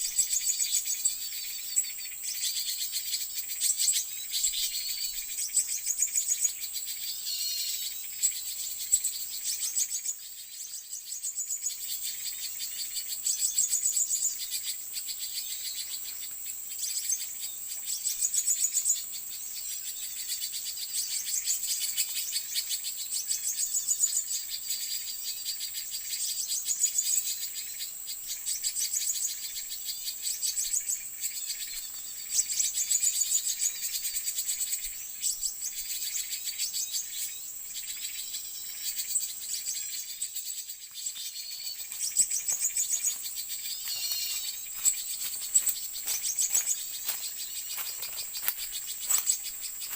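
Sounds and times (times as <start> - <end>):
high-pitched insect chorus: 0.0 - 49.9
small birds chirping: 0.0 - 49.9.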